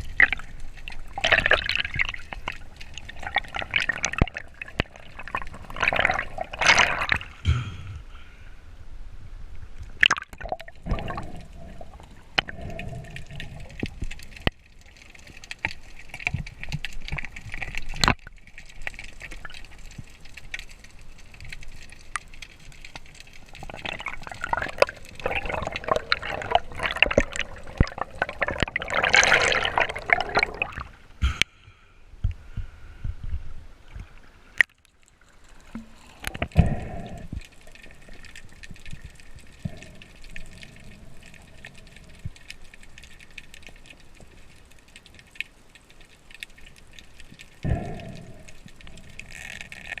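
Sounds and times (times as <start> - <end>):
water bubbling and churning: 0.0 - 7.6, 9.9 - 31.2, 33.9 - 50.0
water sloshing and gurgling: 0.0 - 8.3, 9.0 - 31.4, 32.2 - 50.0.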